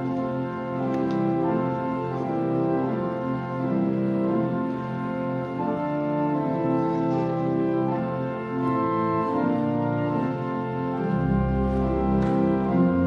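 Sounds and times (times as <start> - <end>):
pipe organ playing hymn chords: 0.0 - 13.0.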